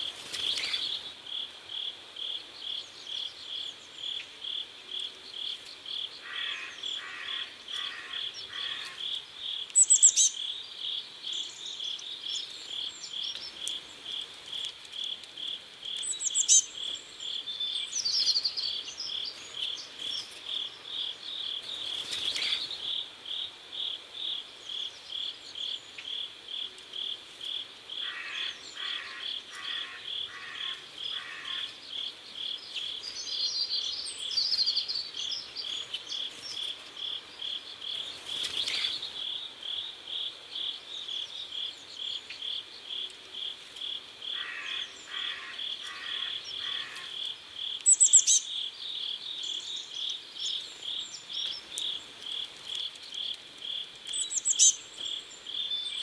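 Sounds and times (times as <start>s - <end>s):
crickets chirping: 0.3s - 56.0s.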